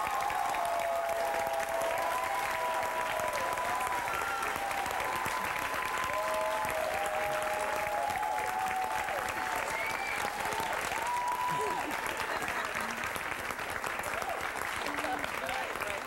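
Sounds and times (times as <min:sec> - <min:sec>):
cheers and whoops: 0:00.0 - 0:13.0, 0:14.0 - 0:15.6
audience applauding: 0:00.0 - 0:16.0.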